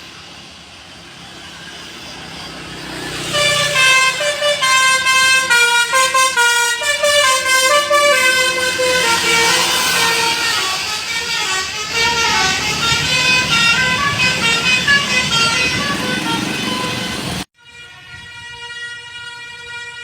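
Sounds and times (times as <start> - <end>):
musical air horn playing a tune: 3.2 - 20.0
held horn chord: 3.3 - 20.0.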